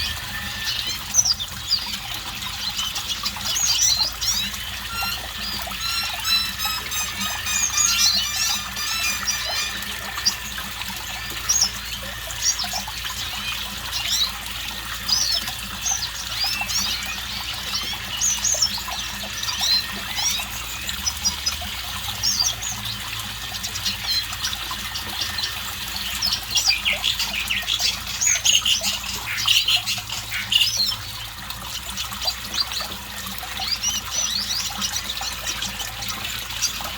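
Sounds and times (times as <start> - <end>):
bird twittering chirps and trills: 0.0 - 36.9.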